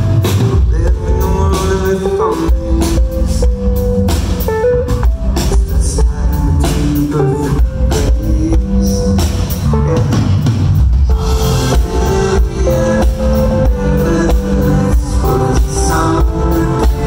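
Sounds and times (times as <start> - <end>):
drum kit beat: 0.0 - 17.0
rock band playing: 0.0 - 17.0.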